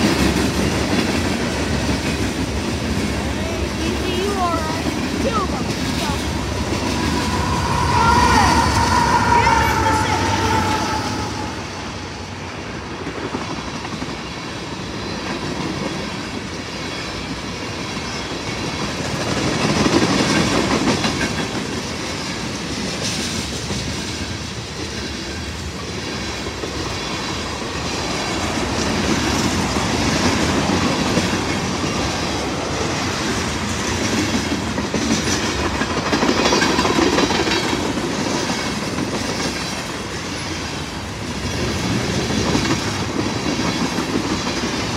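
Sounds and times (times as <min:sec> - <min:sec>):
freight train wheels rumbling on rails: 0:00.0 - 0:44.9.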